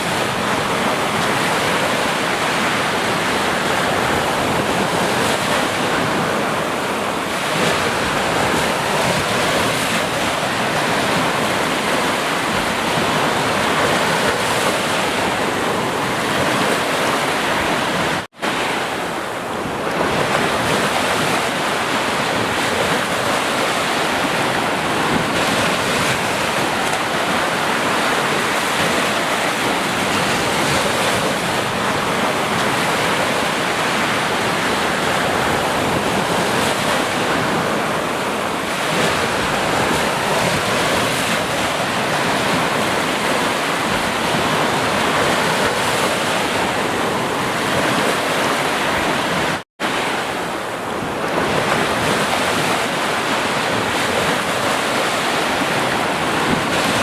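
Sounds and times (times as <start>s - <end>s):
waves washing onto shore: 0.0s - 57.0s.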